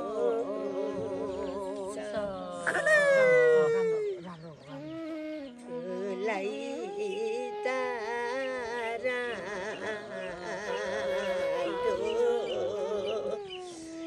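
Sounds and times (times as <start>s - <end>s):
women singing: 0.0s - 3.6s, 5.6s - 13.9s.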